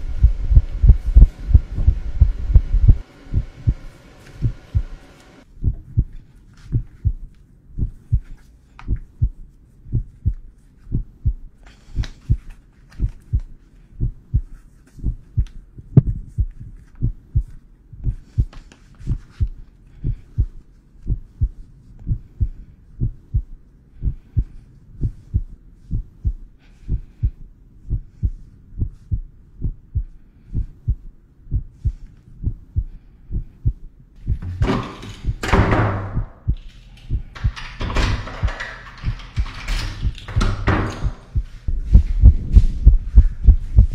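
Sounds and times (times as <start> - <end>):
heartbeat thumps: 0.0 - 39.3, 39.9 - 43.9.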